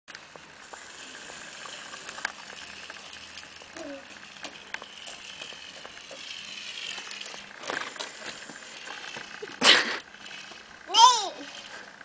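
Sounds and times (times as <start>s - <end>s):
toy car electric motor whining: 0.1s - 12.0s.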